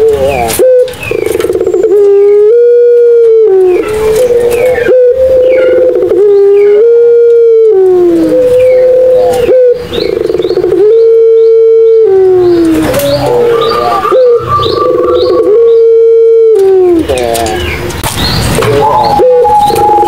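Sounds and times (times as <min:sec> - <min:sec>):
trilled pulsing coos: 0:00.0 - 0:17.6, 0:18.7 - 0:20.0
doves cooing loudly: 0:00.0 - 0:20.0.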